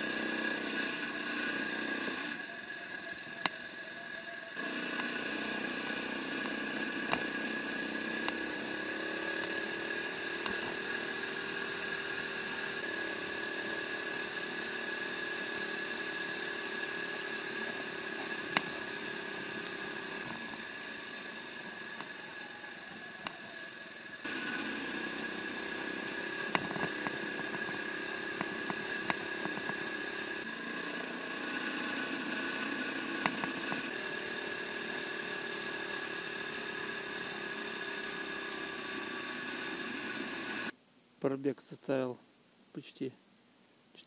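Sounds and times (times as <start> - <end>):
motorized bicycle engine running: 0.0 - 40.8.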